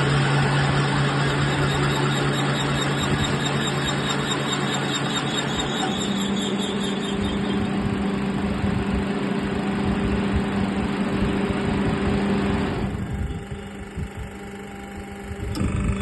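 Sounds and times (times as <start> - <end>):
drilling machine motor hum: 0.0 - 10.5, 11.3 - 16.0
whirring noise: 0.0 - 16.0.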